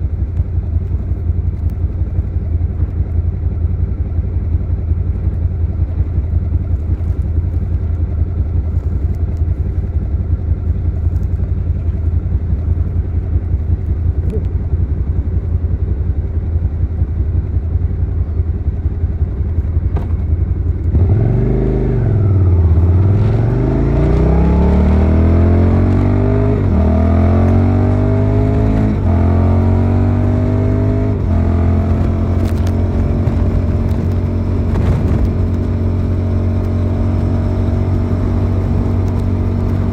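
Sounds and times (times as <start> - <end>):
motorcycle engine idling and accelerating: 0.0 - 39.9.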